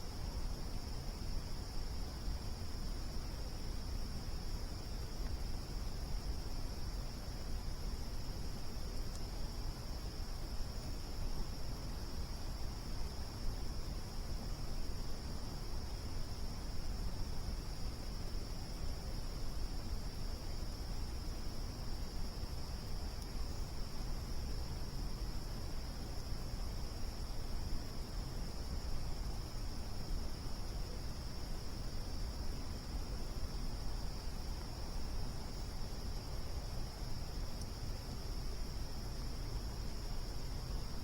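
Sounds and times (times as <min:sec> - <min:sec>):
crickets chirring: 0:00.0 - 0:41.0.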